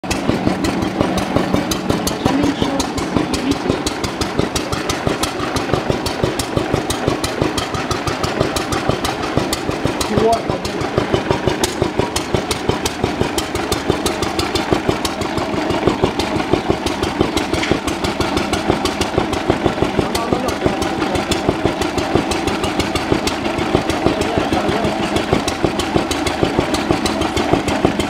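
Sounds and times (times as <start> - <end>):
old stationary engine running: 0.0 - 28.0.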